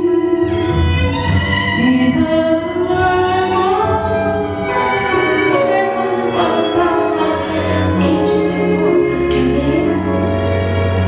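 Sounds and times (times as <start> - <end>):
woman singing: 0.0 - 1.0, 1.7 - 10.5
instrumental accompaniment with bass: 0.0 - 11.0.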